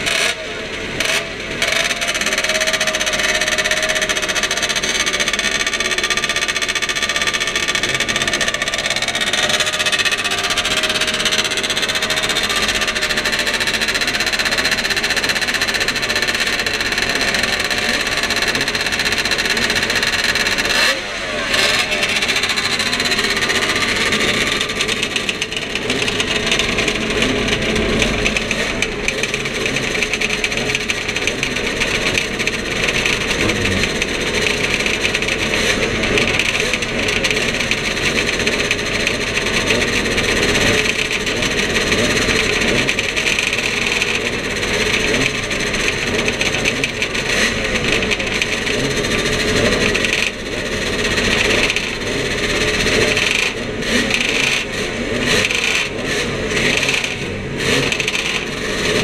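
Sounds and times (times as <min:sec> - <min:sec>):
motorcycle engines idling: 0:00.0 - 0:59.0.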